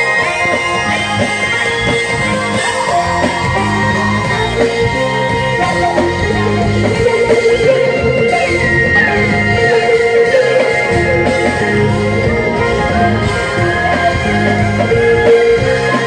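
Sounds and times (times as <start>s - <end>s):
live funk band playing: 0.0s - 16.0s.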